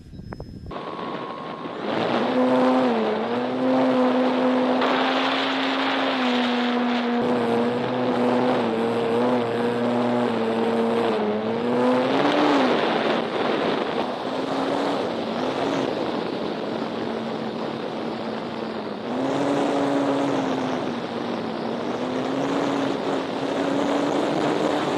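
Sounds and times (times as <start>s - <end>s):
model airplane engine droning: 0.0s - 24.9s
wind noise on microphone: 0.0s - 24.9s.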